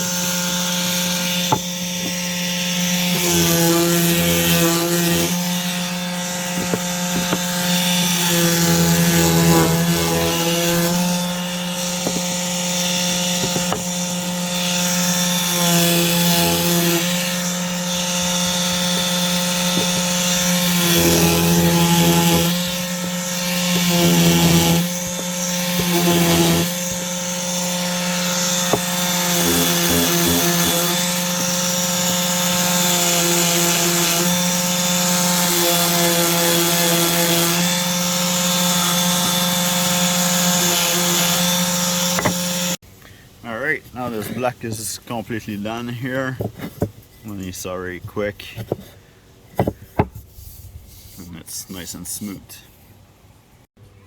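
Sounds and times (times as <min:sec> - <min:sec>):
palm sander on wood: 0:00.0 - 0:42.8, 0:49.6 - 0:52.8.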